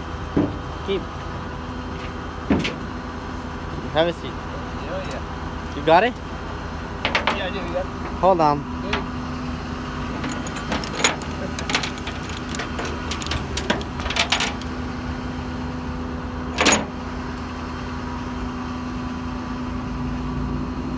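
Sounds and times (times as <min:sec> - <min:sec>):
engine idling hum: 0:00.0 - 0:20.9.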